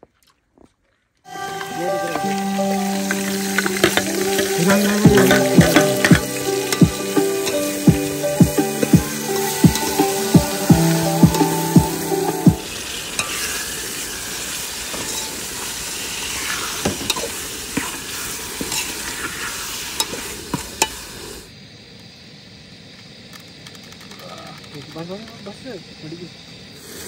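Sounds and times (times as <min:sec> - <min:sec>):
food sizzling in hot oil: 0:01.3 - 0:22.5, 0:25.7 - 0:27.0.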